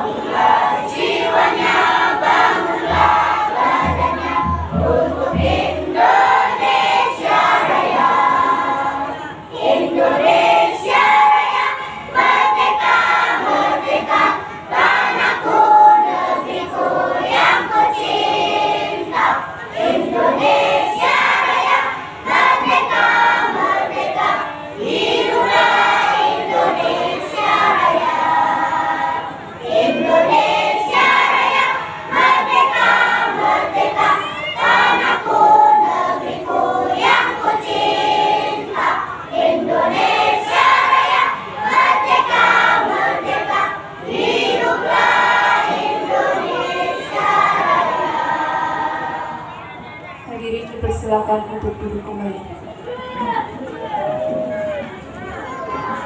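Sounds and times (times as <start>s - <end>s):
children's choir singing: 0.0s - 51.0s, 52.6s - 56.0s.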